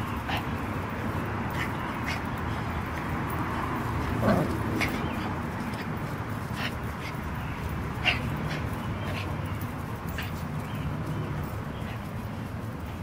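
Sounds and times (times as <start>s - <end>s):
dogs yipping and whimpering: 0.0s - 12.2s.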